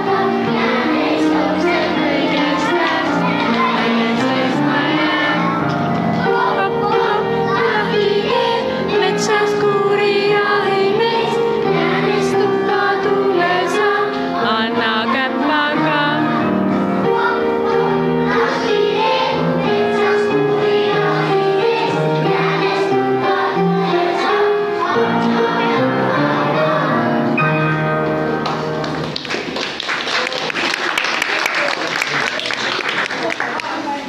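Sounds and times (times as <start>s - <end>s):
children singing: 0.0s - 28.3s
instrumental music: 0.0s - 29.6s.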